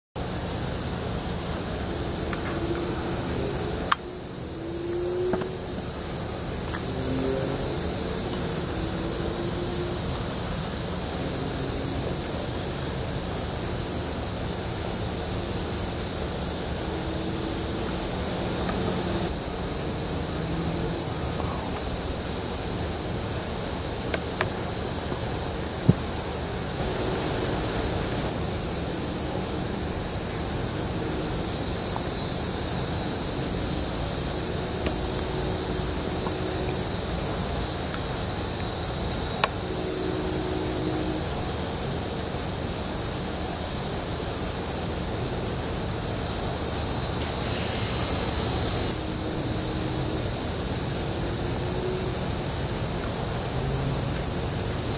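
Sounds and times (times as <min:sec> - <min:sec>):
insects trilling: 0:00.2 - 0:54.9.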